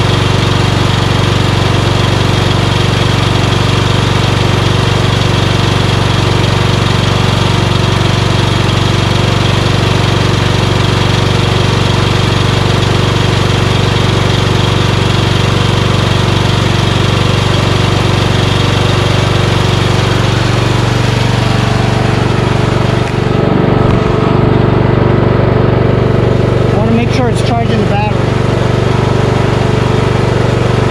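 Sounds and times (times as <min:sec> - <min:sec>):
lawn tractor engine drone: 0:00.0 - 0:30.9.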